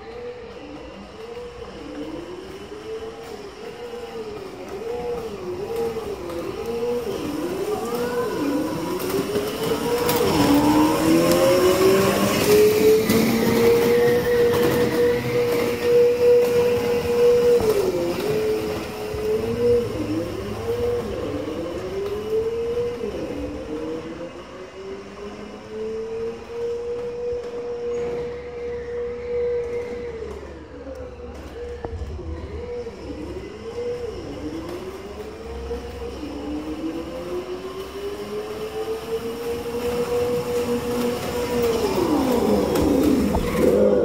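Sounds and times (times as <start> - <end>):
simulated engine revving: 0.0 - 44.0.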